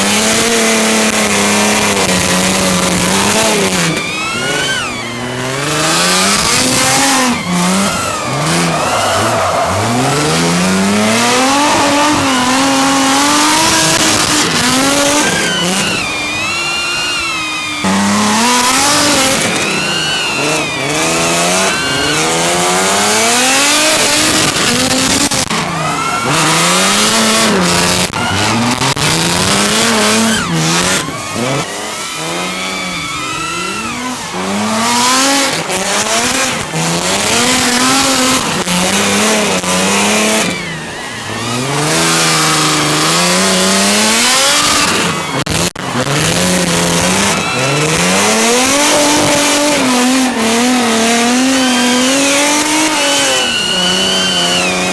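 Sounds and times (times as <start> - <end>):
car engines revving: 0.0 - 54.9
tyre squeal: 1.8 - 54.9.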